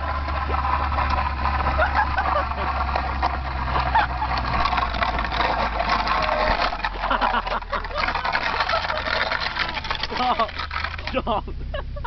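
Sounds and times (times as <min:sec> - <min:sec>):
grit crackling and scraping: 0:00.0 - 0:11.2
car engine hum: 0:00.0 - 0:12.0.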